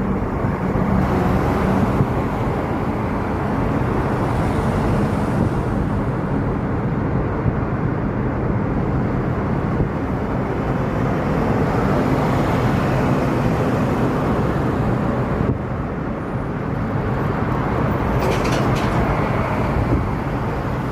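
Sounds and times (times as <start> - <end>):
road noise: 0.0 - 20.9
truck engines running: 0.0 - 20.9.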